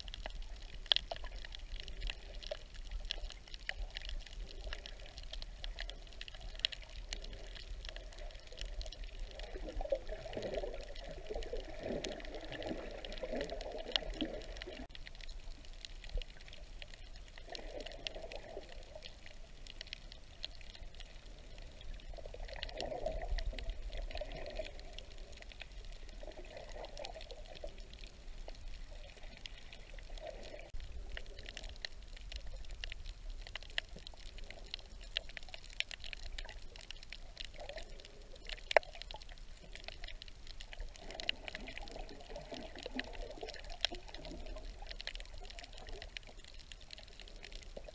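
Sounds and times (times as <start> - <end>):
faint crackling clicks: 0.0 - 47.9
muffled underwater sloshing and bubbling: 0.0 - 47.9.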